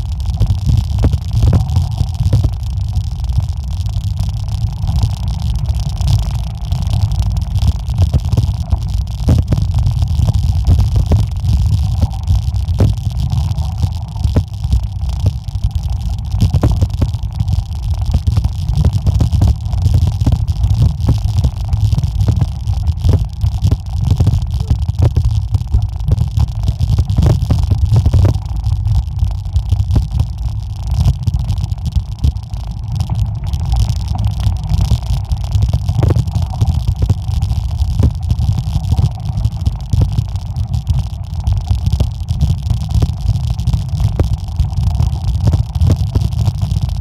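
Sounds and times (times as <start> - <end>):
bike tyres rumbling on gravel: 0.0 - 47.0.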